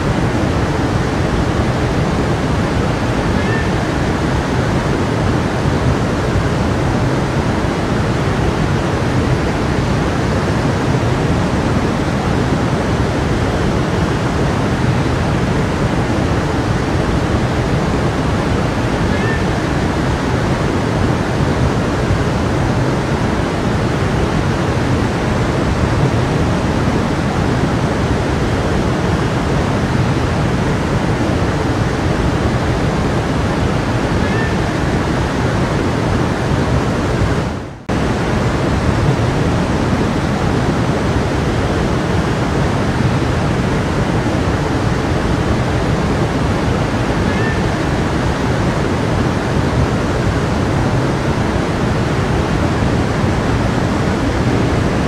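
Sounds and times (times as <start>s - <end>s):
stream rushing water: 0.0s - 55.0s.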